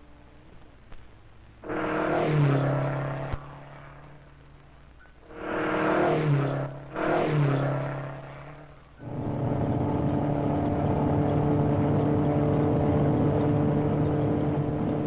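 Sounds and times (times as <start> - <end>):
car engine revving: 1.6 - 4.4, 5.2 - 15.0.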